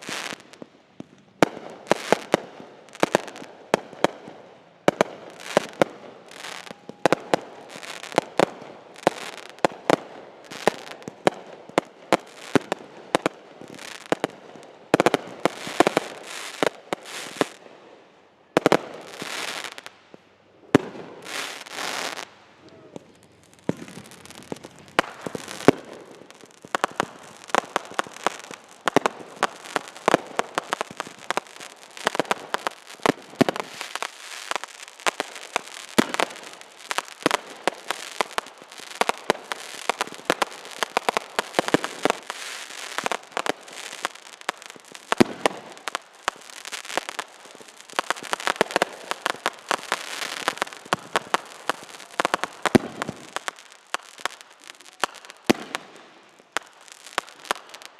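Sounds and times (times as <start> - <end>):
fireworks hissing: 0.0 - 0.6, 5.0 - 17.6, 18.6 - 19.9, 20.6 - 57.9
fireworks bangs and pops: 0.0 - 57.9
fireworks crackling: 0.0 - 57.9.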